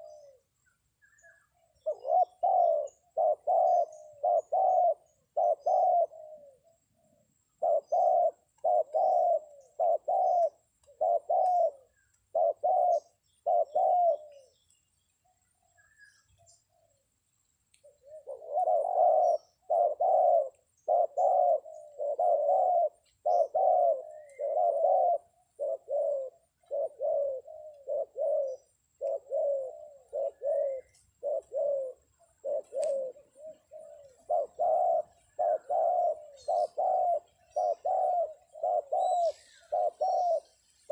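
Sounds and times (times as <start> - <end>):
dove cooing: 0.0 - 17.1, 17.8 - 40.9
small birds chirping: 0.0 - 40.9.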